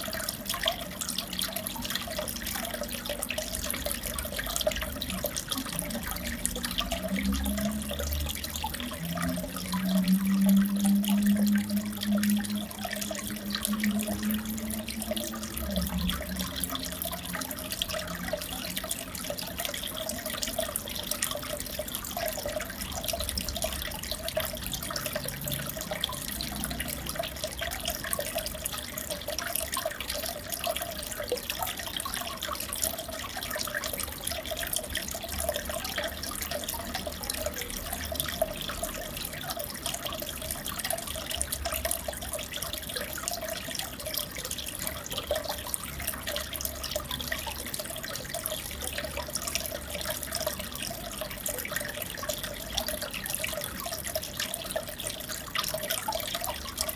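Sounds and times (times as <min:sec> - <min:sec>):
aquarium water trickling and bubbling: 0:00.0 - 0:56.9.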